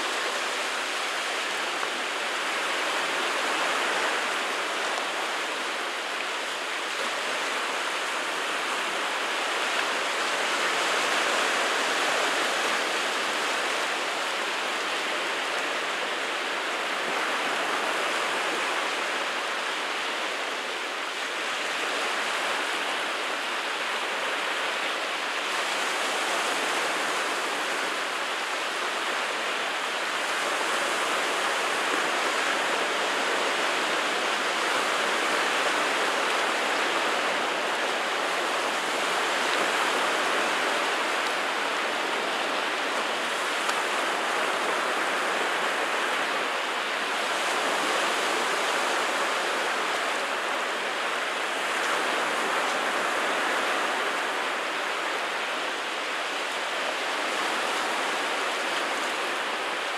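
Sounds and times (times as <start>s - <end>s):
waves washing on rocky shore: 0.0s - 59.9s.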